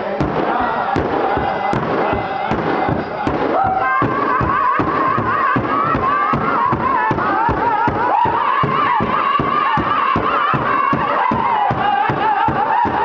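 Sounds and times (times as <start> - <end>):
group singing high-pitched in unison: 0.0 - 13.0
sticks beating large hide drum: 0.0 - 13.0.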